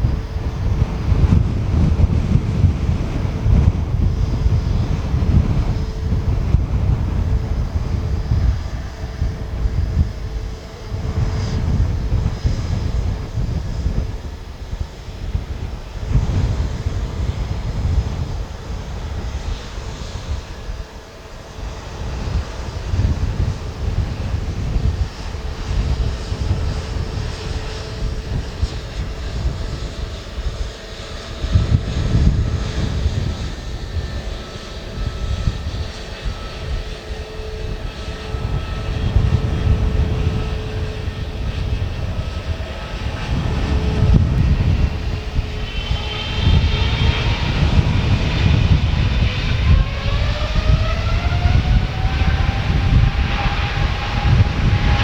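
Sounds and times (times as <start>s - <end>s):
jet engines rumbling and humming: 0.0s - 55.0s
jet engines whining as they spool up: 0.0s - 55.0s.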